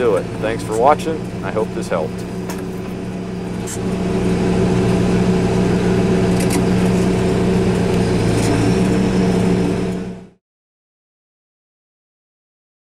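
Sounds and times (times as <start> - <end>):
tractor diesel engine droning: 0.0 - 10.4.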